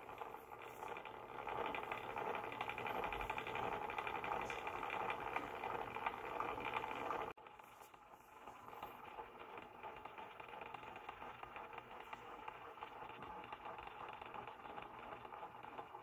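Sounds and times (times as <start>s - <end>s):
small electric motor gear rattle: 0.0s - 16.0s.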